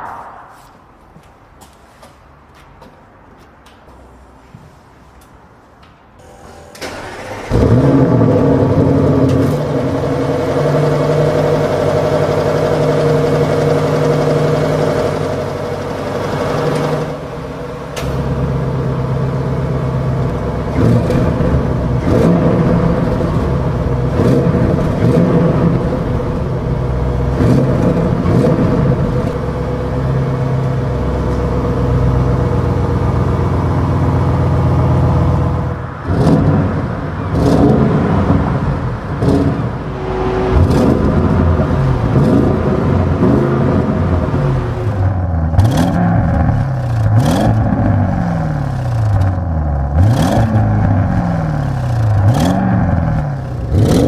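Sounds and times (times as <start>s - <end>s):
car engine idling: 6.2s - 54.0s
car engine starting and revving: 6.2s - 54.0s.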